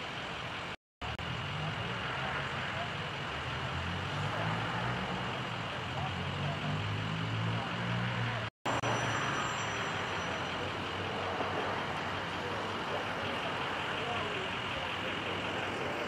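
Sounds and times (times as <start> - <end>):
idling engines humming: 0.0 - 16.0
road traffic noise: 0.0 - 16.0.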